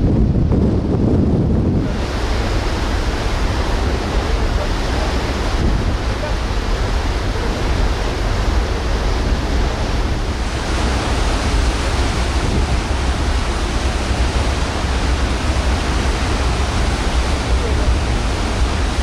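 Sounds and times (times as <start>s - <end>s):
ship wake rushing: 0.0s - 19.0s
wind buffeting microphone: 0.0s - 19.0s.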